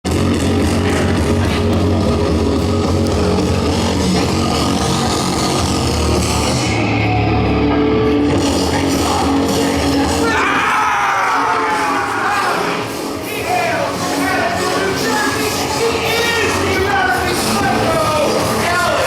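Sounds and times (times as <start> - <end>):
rock music with guitar and drums: 0.1 - 19.0.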